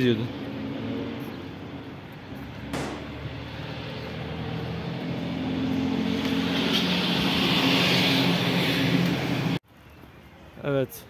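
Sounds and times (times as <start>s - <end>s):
road and tyre noise: 0.0s - 11.0s
vehicle engine approaching: 0.1s - 9.4s.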